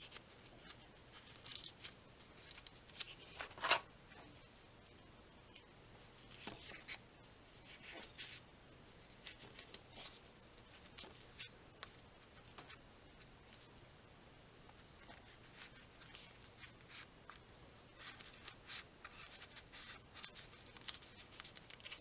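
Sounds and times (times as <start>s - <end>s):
faint rustling and scratching: 0.0s - 14.0s, 14.6s - 22.0s.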